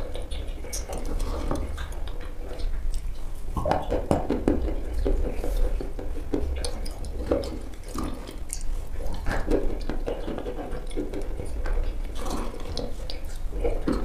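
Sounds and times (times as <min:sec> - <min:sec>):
wet squelching mouth sounds: 0:00.0 - 0:14.0.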